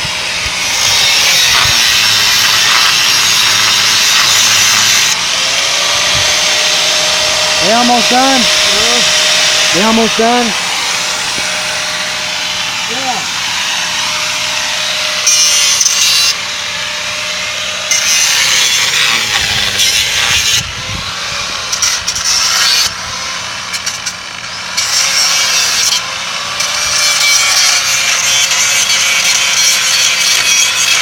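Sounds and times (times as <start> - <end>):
power grinder cutting steel: 0.0 - 31.0.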